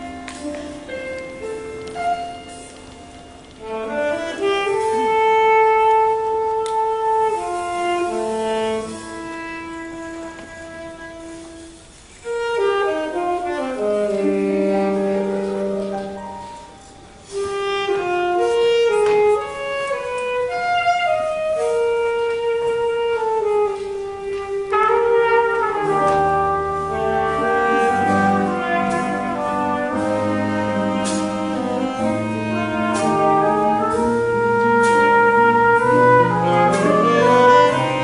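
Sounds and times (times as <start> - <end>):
alto saxophone playing: 0.0 - 38.0
trumpet playing: 3.6 - 16.2, 17.2 - 38.0.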